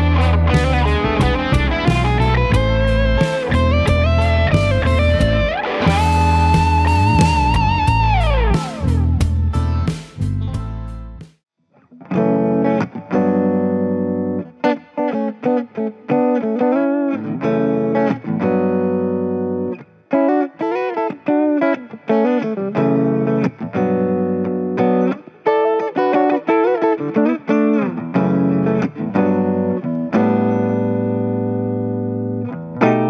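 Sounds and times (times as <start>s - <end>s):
electric guitar lead line: 0.0s - 11.2s, 11.8s - 33.0s.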